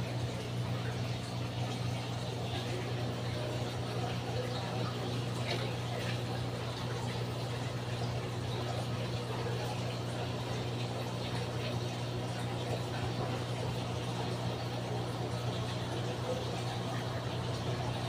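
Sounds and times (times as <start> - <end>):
aquarium pump humming: 0.0 - 18.0
water bubbling and trickling: 0.0 - 18.0.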